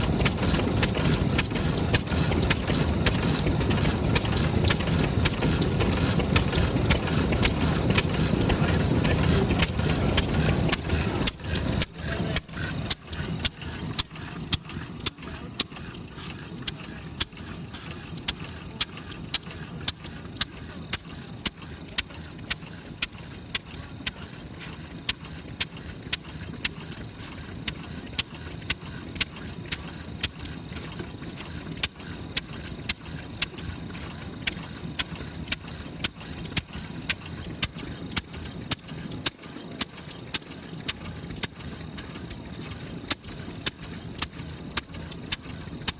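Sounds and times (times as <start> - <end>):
stationary engine popping slowly: 0.0 - 45.9.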